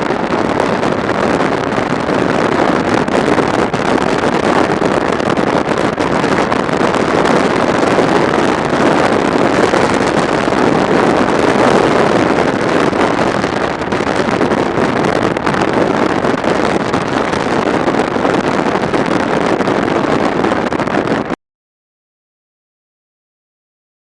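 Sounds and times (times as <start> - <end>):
motorcycle road and engine noise: 0.0 - 21.4
wind rushing over microphone: 0.0 - 21.4.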